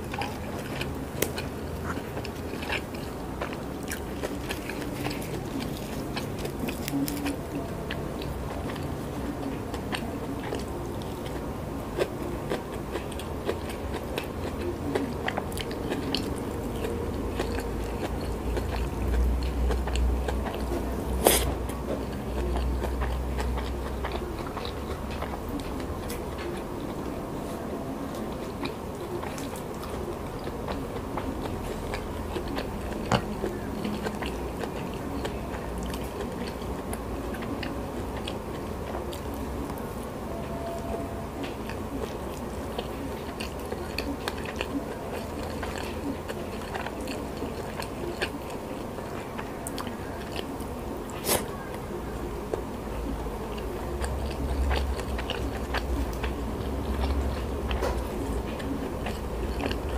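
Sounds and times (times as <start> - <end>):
close chewing of food: 0.0 - 59.9.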